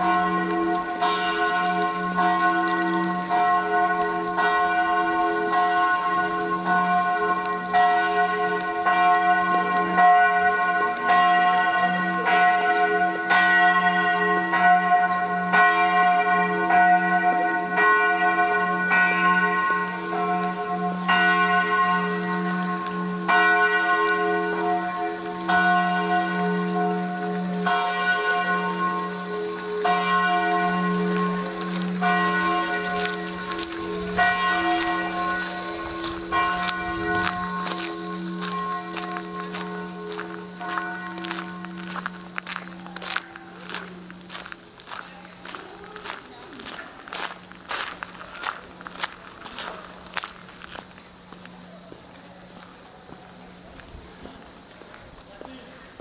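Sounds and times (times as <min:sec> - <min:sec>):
church bells pealing: 0:00.0 - 0:55.0.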